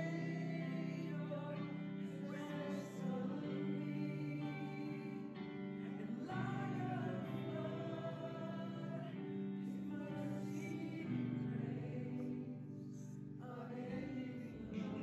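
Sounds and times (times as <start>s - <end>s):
worship song with sung vocals: 0.0s - 15.0s.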